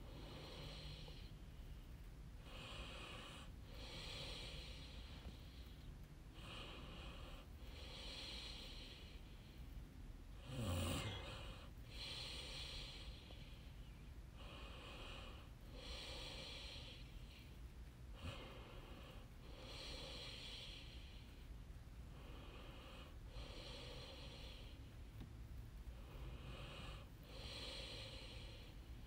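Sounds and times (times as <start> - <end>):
faint regular breathing: 0.0 - 29.0.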